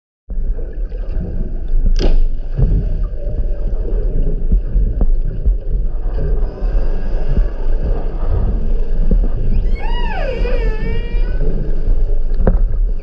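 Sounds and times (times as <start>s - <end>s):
underwater low rumble: 0.3s - 13.0s.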